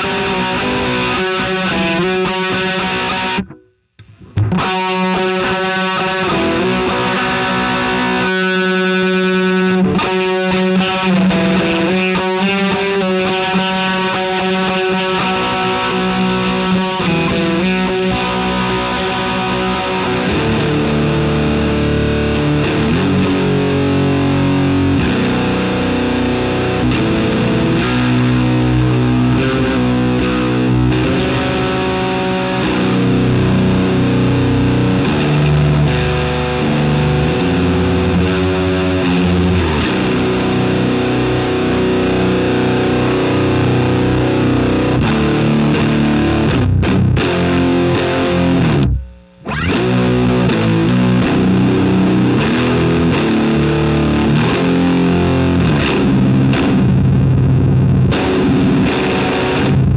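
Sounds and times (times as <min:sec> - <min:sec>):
distorted electric guitar riffs: 0:00.0 - 0:59.9.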